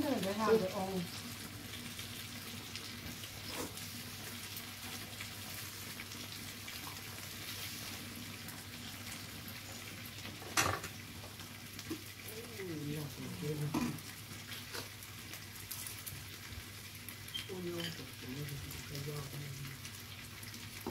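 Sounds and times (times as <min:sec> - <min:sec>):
meat and vegetables sizzling: 0:00.0 - 0:20.9.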